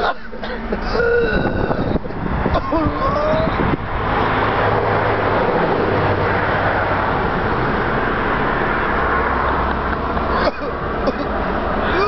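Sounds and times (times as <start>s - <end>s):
car engine hum: 0.0s - 12.0s
dense rushing noise: 0.5s - 12.0s.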